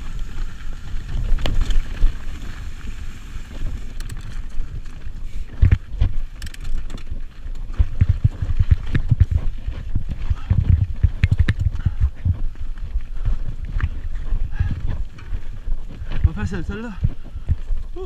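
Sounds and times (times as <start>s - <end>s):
bike knocking and rattling on rocks: 0.0s - 18.0s
wind rush on microphone: 0.0s - 18.0s.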